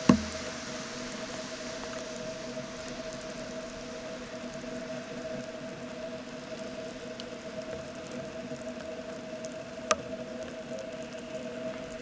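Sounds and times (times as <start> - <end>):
rain pattering on water: 0.0 - 12.0.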